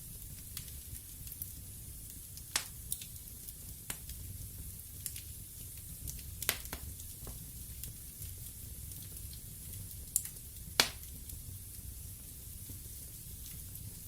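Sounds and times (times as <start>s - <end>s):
burning wood crackling and popping: 0.0s - 14.0s
wood fire burning with hiss: 0.0s - 14.0s.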